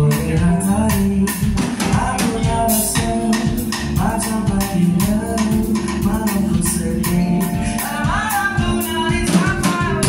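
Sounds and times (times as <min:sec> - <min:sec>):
drum kit: 0:00.0 - 0:10.0
electric keyboard: 0:00.0 - 0:10.0
man singing: 0:00.0 - 0:10.0.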